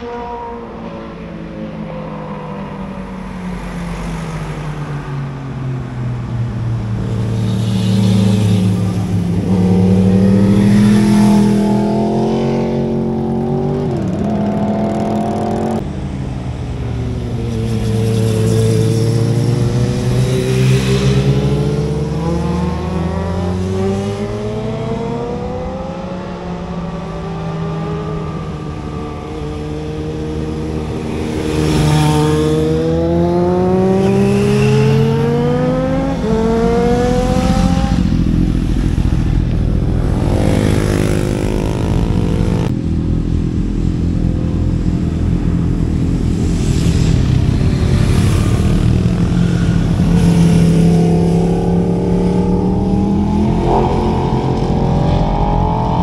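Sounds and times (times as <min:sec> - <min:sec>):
motorcycles accelerating past: 0:06.7 - 0:15.8, 0:17.0 - 0:42.8, 0:43.7 - 0:56.0.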